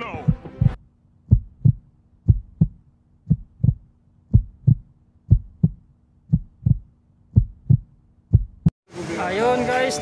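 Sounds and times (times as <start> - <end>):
heartbeat thumps: 0.0 - 8.8.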